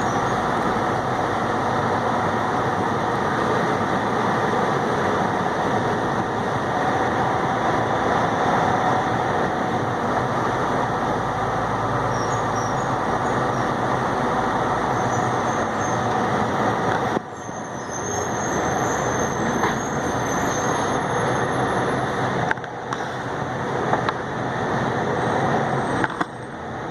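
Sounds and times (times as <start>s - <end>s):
truck engine and road noise: 0.0s - 26.9s.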